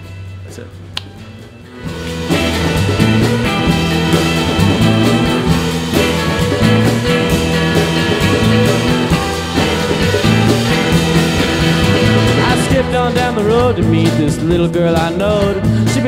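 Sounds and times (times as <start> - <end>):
drums with steady beat: 0.0 - 16.0
upbeat indie band song: 1.1 - 16.0.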